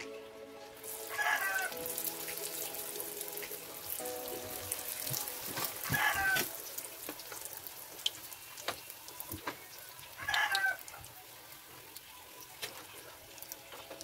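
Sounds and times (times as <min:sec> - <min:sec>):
food sizzling in oil: 0:00.8 - 0:14.0.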